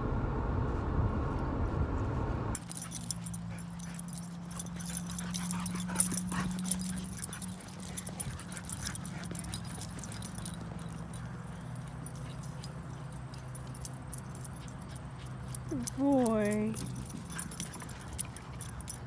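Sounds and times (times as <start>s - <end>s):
light jingling and clicks: 2.6s - 19.0s.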